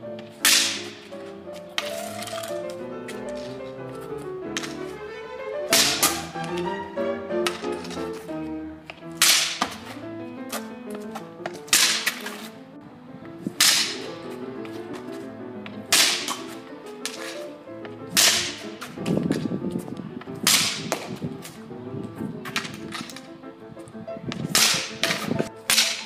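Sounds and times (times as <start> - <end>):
hockey stick striking asphalt: 0.0 - 12.6, 13.3 - 21.7, 22.3 - 23.4, 24.3 - 26.0
background music: 0.0 - 26.0.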